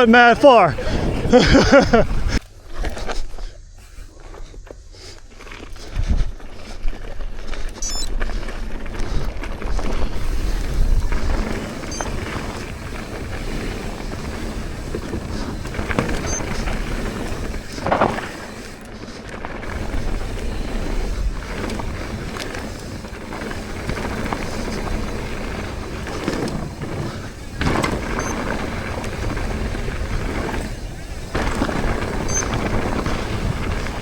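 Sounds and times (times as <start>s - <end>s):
bike rattle and tyre noise: 0.0s - 34.0s.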